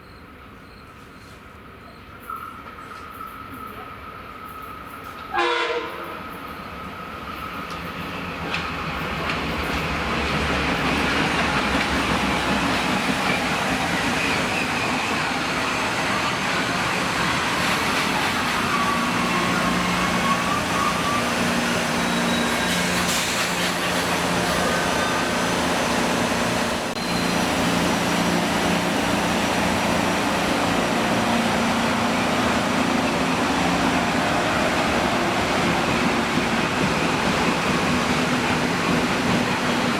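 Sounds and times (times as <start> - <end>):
train wheels on rails: 0.4 - 39.9.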